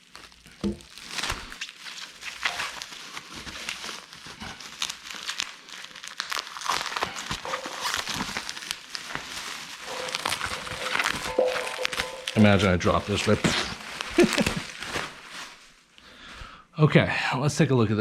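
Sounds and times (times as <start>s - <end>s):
packaging rustling: 0.0s - 15.9s.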